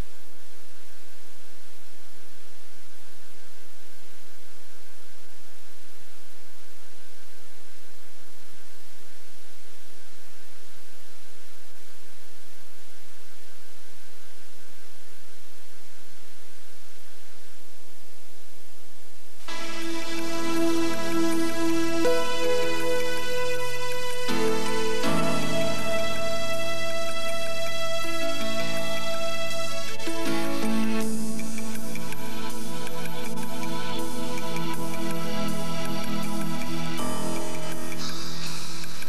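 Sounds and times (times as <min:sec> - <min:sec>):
constant hiss: 0:00.0 - 0:39.0
thin steady tones: 0:00.0 - 0:39.0.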